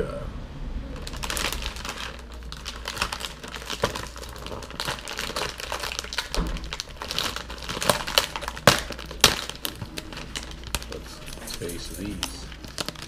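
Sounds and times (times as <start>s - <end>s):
plastic wrapper crinkling: 0.9s - 13.0s.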